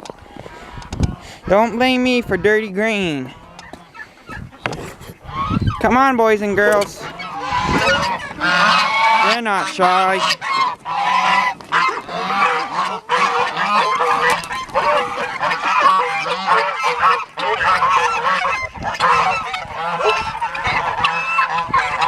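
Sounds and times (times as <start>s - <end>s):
geese honking: 0.2s - 22.0s.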